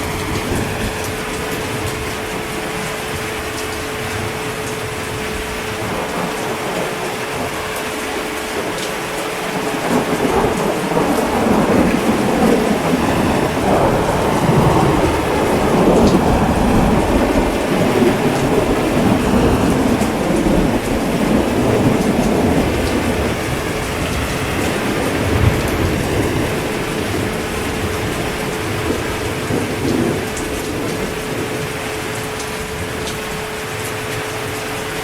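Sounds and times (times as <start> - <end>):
heavy rain falling: 0.0 - 35.0
thunder rumbling: 0.0 - 35.0.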